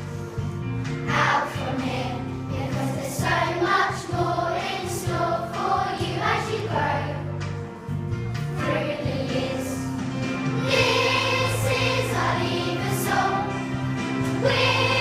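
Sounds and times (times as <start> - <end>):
musical accompaniment: 0.0 - 15.0
children's choir singing: 1.0 - 7.4, 8.6 - 9.9, 10.5 - 15.0.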